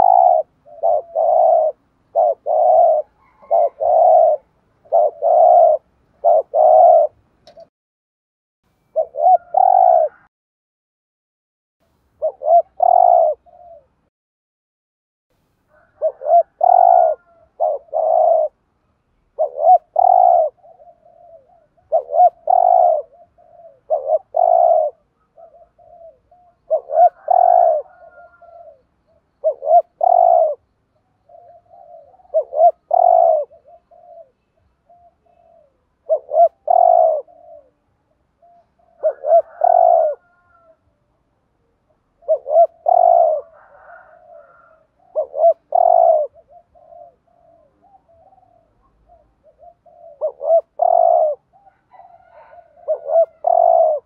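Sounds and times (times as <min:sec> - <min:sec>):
dove cooing: 0:00.0 - 0:07.7, 0:08.9 - 0:10.3, 0:12.2 - 0:14.0, 0:15.7 - 0:18.6, 0:19.4 - 0:41.0, 0:41.9 - 0:54.0.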